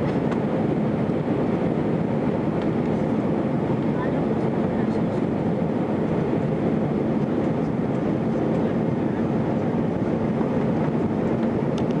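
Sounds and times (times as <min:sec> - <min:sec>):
airplane cabin engine rush: 0:00.0 - 0:12.0.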